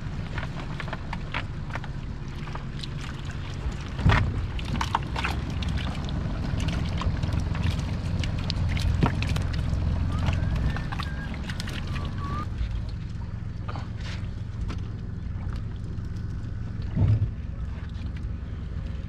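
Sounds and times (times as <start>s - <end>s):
low steady rumble: 0.0s - 19.0s
water splashing and sloshing: 0.0s - 19.0s.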